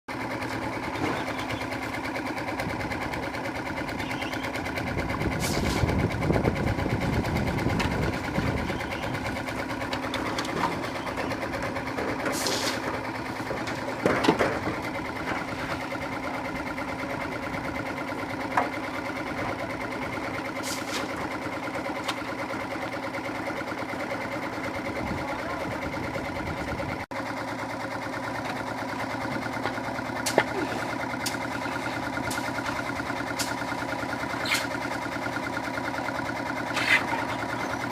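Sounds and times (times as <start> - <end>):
machine engine humming: 0.1 - 37.9.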